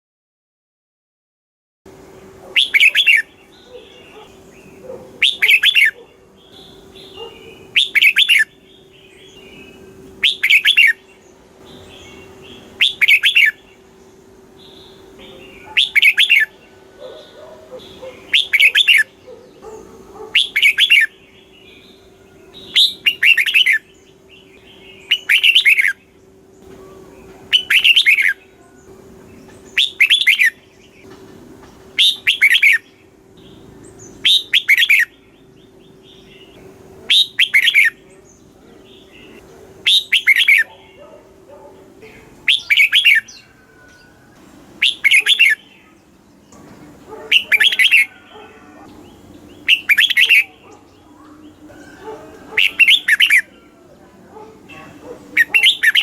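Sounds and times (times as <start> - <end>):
faint steady hum: 1.9 - 56.0
bird singing bubbling phrases: 2.6 - 31.0, 32.0 - 44.1, 44.8 - 46.6, 47.3 - 56.0.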